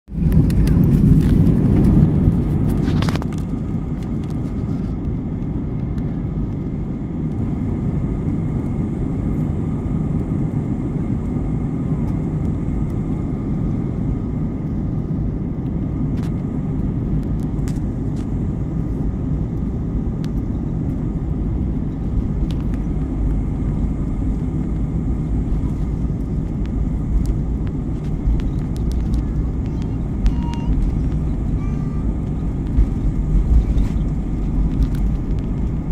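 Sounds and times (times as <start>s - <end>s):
engine and airflow rumble: 0.0s - 35.9s
faint steady whine: 0.1s - 35.9s.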